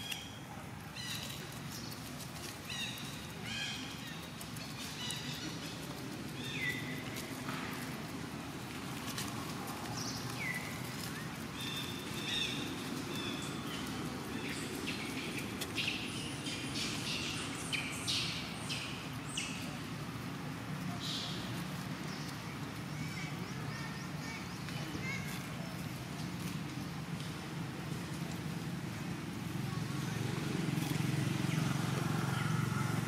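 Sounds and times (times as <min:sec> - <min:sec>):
rustling in dry leaves: 0:00.0 - 0:33.0.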